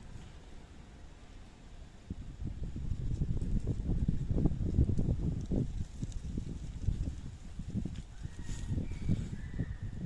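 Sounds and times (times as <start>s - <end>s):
low outdoor hiss and rumble: 0.0s - 8.8s.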